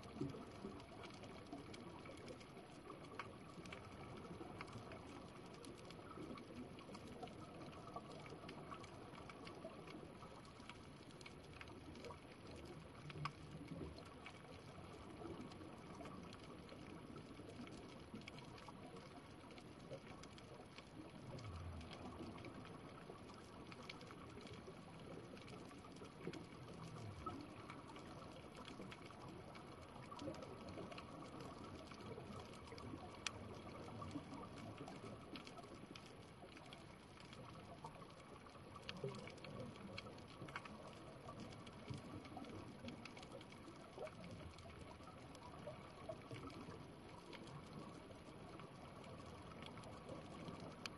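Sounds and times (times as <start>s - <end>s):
small faint clicks: 0.0s - 50.9s
underwater water noise: 0.0s - 50.9s.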